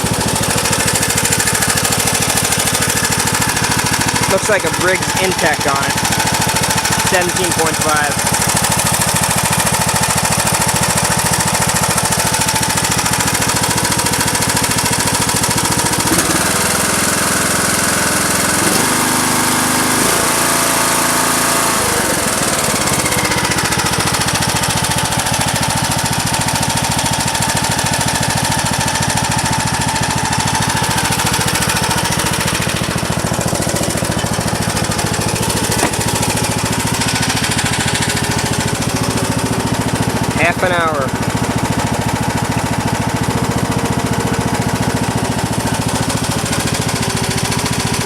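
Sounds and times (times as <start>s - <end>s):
lawn tractor engine running: 0.0s - 48.0s.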